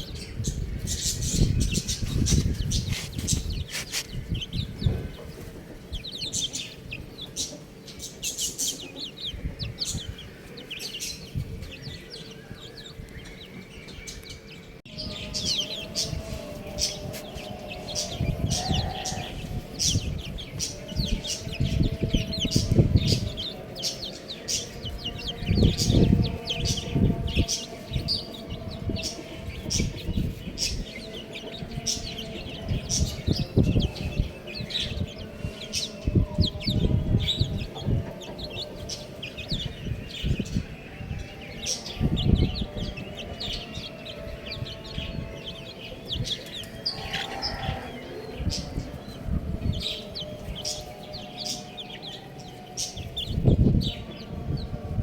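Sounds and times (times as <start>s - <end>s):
baby chicks peeping: 0.0s - 55.0s
low rumbling bursts: 9.2s - 55.0s.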